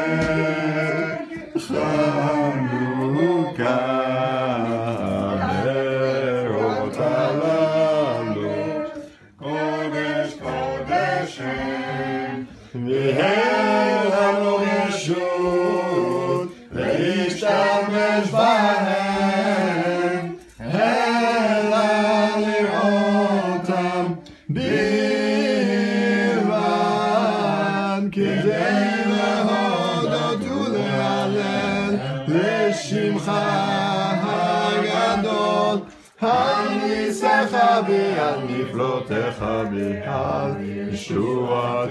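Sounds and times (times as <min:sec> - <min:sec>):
group singing without instruments: 0:00.0 - 0:41.9.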